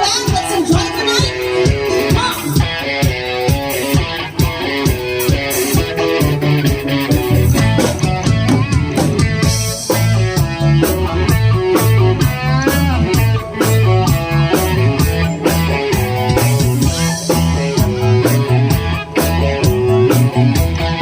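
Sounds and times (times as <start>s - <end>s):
bass guitar: 0.0s - 21.0s
drum kit beat: 0.0s - 21.0s
electric guitar: 0.0s - 21.0s.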